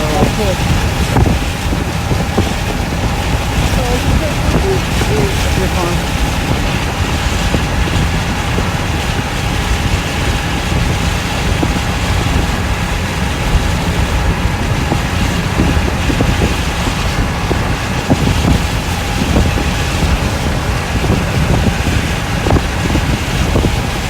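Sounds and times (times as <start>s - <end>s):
road and wind rumble in car: 0.0s - 24.0s.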